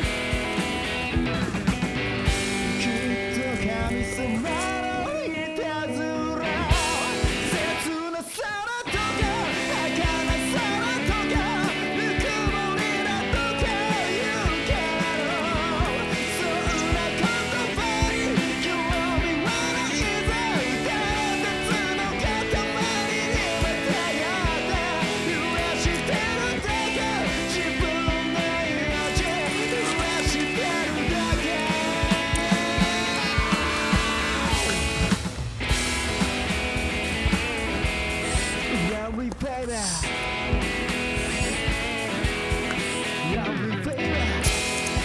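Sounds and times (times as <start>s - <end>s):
rock song with singing: 0.0s - 45.0s.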